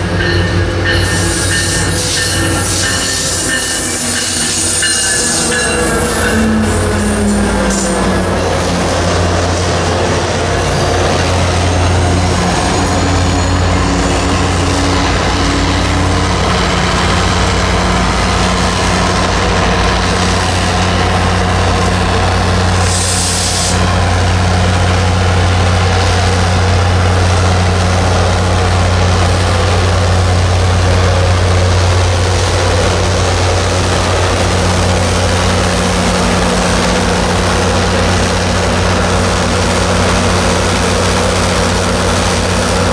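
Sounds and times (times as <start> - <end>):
diesel locomotive engine droning: 0.0 - 42.9
train rumble: 0.0 - 42.9.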